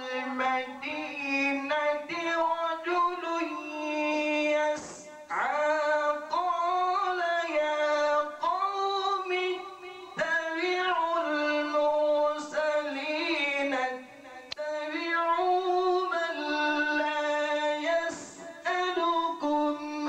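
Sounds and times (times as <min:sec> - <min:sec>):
man chanting melodic recitation: 0:00.0 - 0:20.0.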